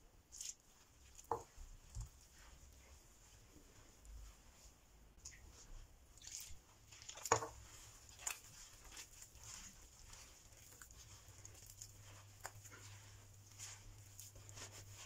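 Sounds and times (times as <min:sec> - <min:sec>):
dough squishing and rustling: 0:00.0 - 0:15.0.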